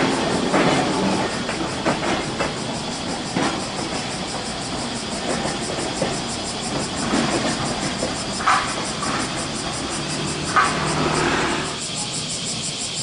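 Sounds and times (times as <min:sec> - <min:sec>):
traffic rumble: 0:00.0 - 0:13.0
tram wheels clicking on rail joints: 0:00.0 - 0:13.0.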